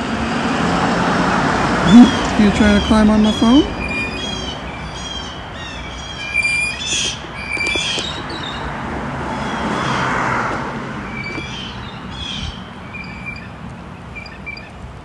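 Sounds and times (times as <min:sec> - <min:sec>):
road vehicle passing: 0:00.0 - 0:15.0
small birds chirping: 0:01.8 - 0:15.0.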